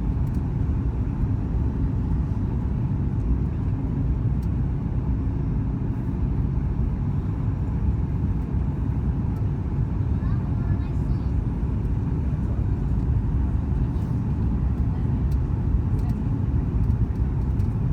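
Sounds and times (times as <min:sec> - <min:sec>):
airplane cabin rumble: 0:00.0 - 0:17.9.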